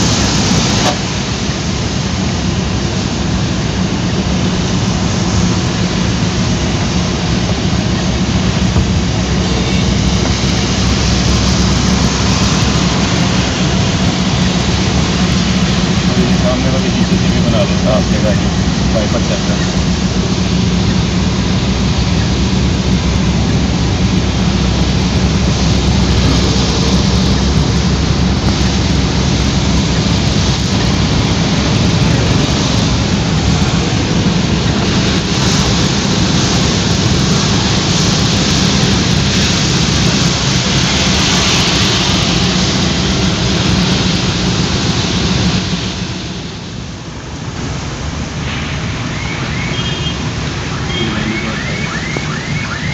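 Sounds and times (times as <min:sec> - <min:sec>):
car driving on wet road: 0:00.0 - 0:52.9
constant low rumble: 0:00.0 - 0:52.9
rain: 0:00.0 - 0:52.9.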